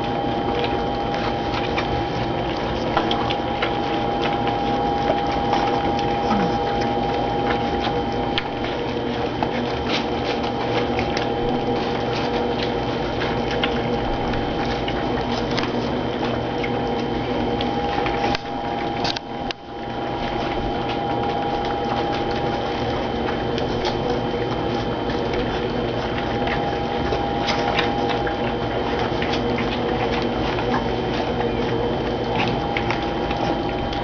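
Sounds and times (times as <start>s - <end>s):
puppies lapping food: 0.0s - 34.0s
steady hum: 0.0s - 34.0s.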